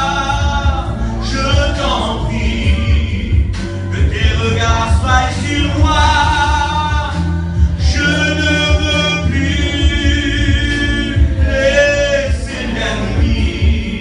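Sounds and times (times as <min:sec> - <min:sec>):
steady low bass: 0:00.0 - 0:14.0
worship song singing: 0:00.0 - 0:14.0.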